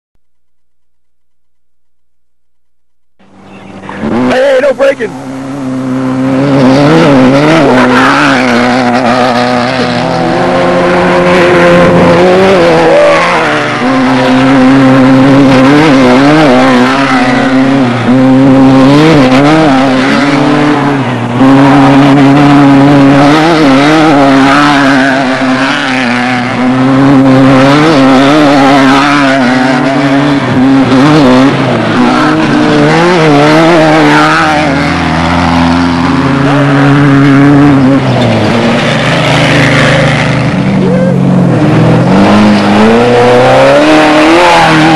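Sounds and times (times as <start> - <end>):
race vehicle engine revving: 3.2 - 44.9.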